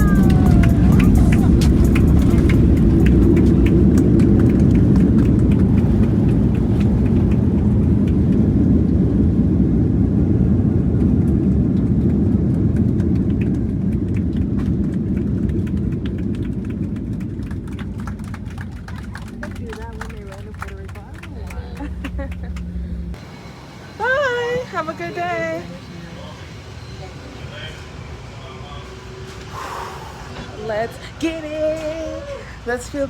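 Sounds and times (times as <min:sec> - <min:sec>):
airliner cabin low rumble: 0:00.0 - 0:33.0.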